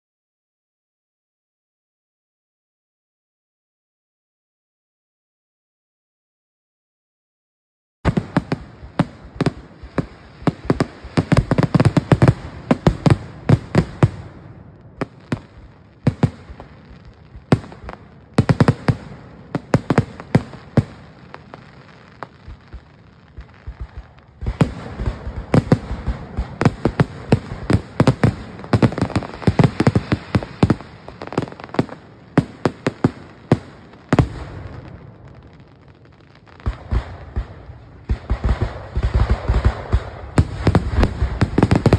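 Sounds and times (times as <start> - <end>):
fireworks bangs and pops: 8.0 - 41.9.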